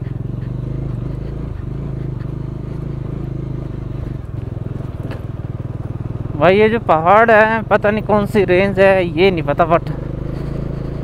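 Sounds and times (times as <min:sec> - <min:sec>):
tyres on gravel: 0:00.0 - 0:06.7, 0:07.4 - 0:11.0
motorcycle engine running: 0:00.0 - 0:11.0.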